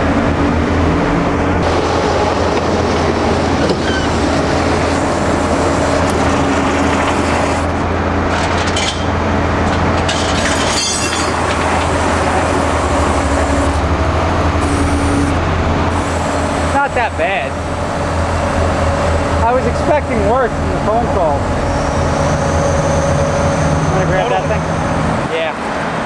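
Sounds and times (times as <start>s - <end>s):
vehicle road noise: 0.0s - 26.0s.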